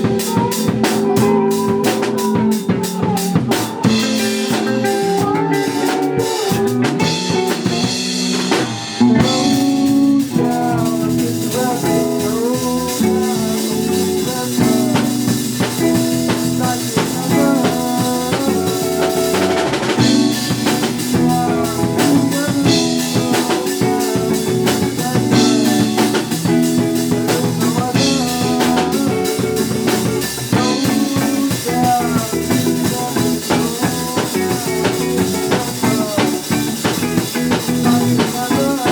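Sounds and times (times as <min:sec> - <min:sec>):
drum kit hits: 0:00.0 - 0:38.9
electric guitars playing: 0:00.0 - 0:38.9
live band playing: 0:00.0 - 0:38.9.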